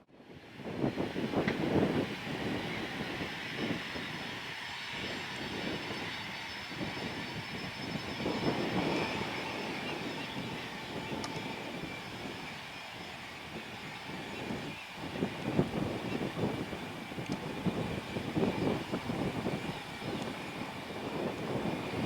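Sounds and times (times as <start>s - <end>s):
jet engines whining and roaring: 0.2s - 22.0s.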